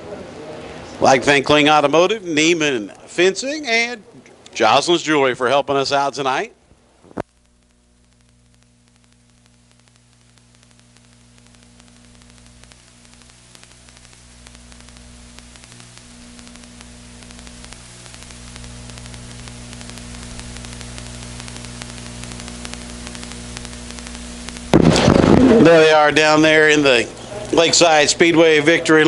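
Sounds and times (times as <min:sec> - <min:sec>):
crackling static: 0:00.0 - 0:29.0
electrical hum: 0:00.0 - 0:29.0.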